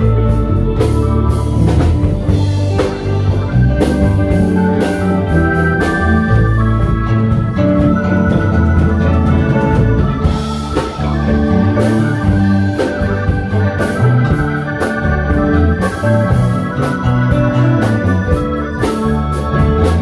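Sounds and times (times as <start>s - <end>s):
bass line: 0.0s - 20.0s
organ-like keyboard chords: 0.0s - 20.0s.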